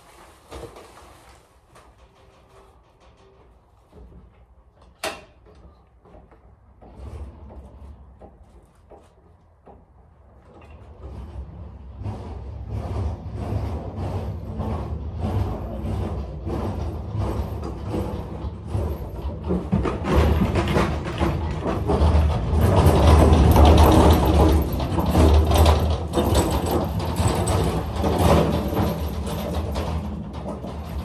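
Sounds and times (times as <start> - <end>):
pallet jack creaking and rattling: 0.5 - 31.0.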